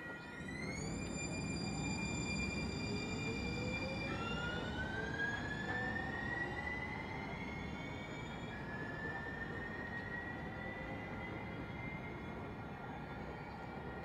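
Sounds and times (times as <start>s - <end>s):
trolley traction motors whining: 0.0s - 14.0s.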